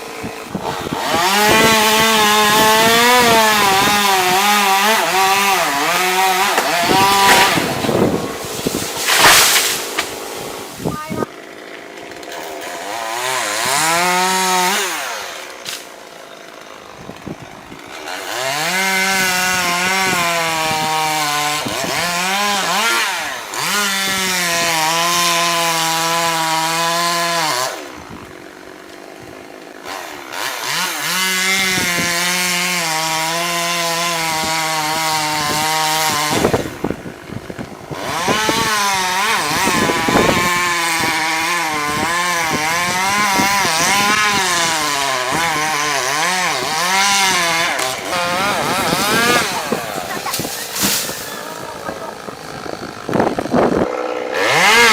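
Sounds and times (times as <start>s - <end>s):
chainsaw idling: 0.0s - 19.2s, 27.5s - 32.4s, 33.0s - 54.9s
chainsaw revving: 0.0s - 54.9s.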